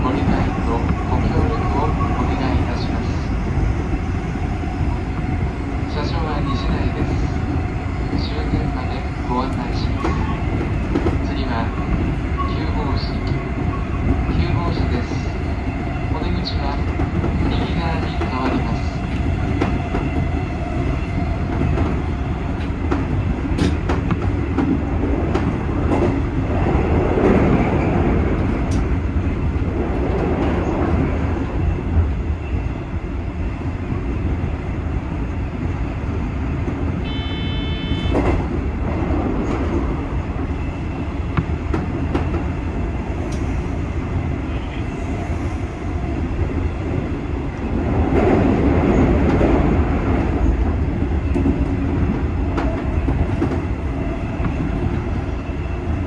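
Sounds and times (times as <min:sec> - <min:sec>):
rail joint clicks: 0:00.0 - 0:32.6, 0:35.3 - 0:56.0
train wheels rumbling on rail: 0:00.0 - 0:56.0.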